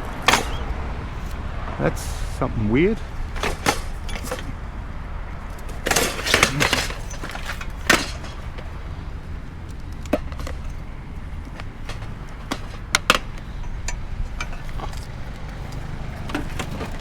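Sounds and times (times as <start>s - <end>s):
hard objects clattering: 0.0s - 17.0s.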